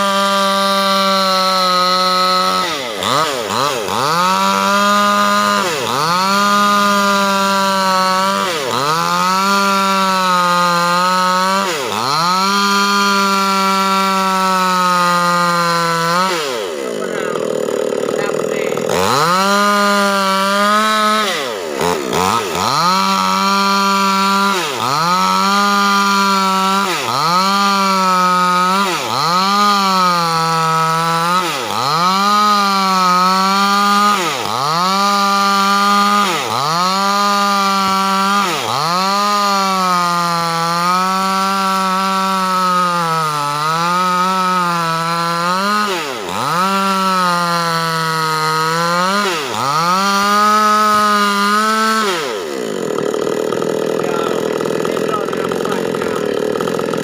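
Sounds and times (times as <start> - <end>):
chainsaw cutting timber: 0.0 - 57.0.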